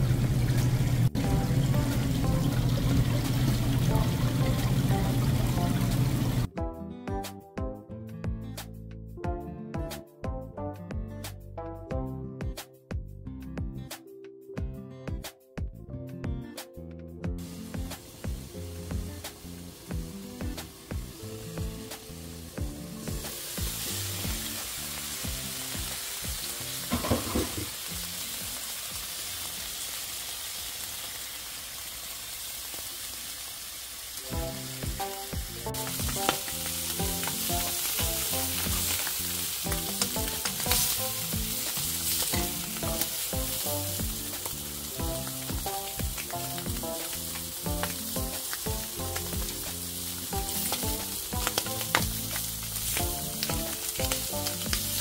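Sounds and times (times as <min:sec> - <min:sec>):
meat and peppers sizzling in pan: 0:00.0 - 0:06.5, 0:17.4 - 0:55.0.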